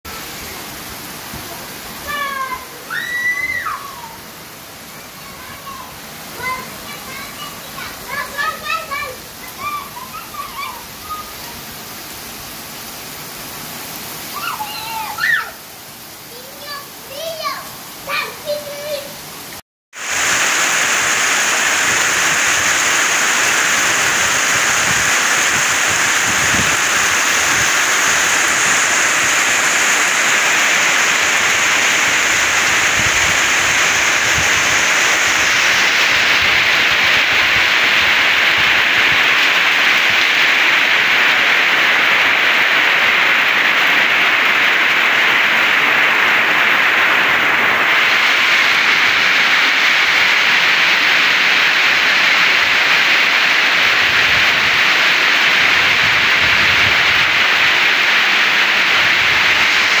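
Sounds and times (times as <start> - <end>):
heavy rain: 0.0 - 60.0
water pouring off a roof: 0.1 - 60.0.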